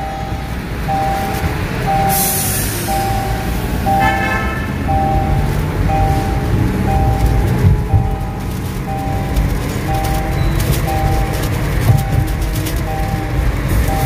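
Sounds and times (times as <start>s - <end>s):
dashboard warning chime beeping: 0.0s - 14.0s
engine and road rumble: 0.0s - 14.0s
short high-pitched tone: 0.0s - 14.0s.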